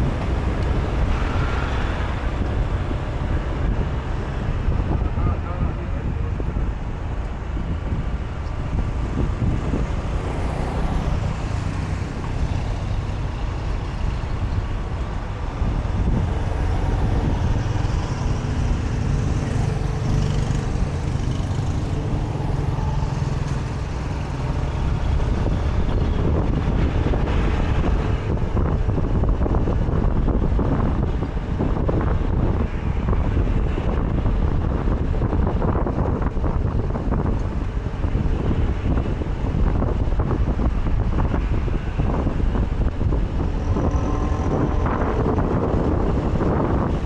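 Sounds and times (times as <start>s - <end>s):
cars and motorbikes passing: 0.0s - 47.0s
heavy low traffic rumble: 0.0s - 47.0s.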